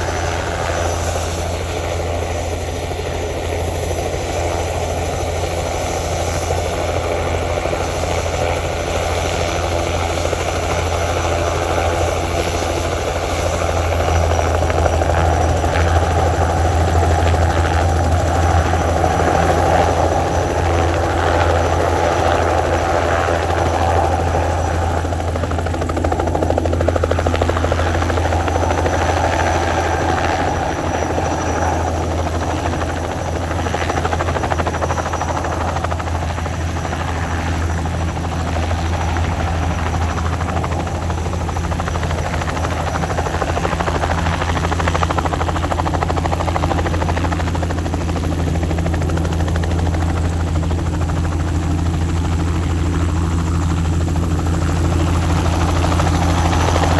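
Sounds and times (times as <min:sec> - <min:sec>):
helicopter flying: 0:00.0 - 0:56.9.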